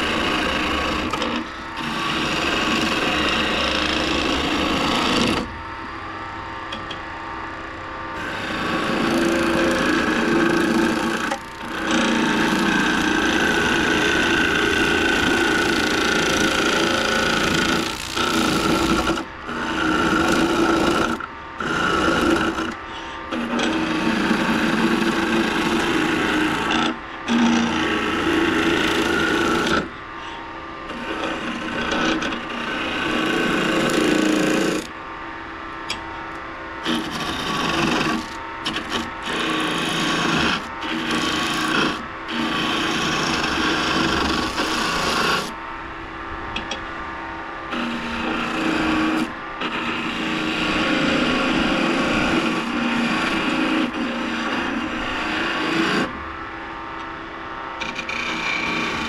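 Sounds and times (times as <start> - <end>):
chisel cutting wood on lathe: 0.0 - 5.5, 8.2 - 29.9, 30.9 - 34.9, 36.8 - 45.5, 47.7 - 56.1, 57.8 - 59.0.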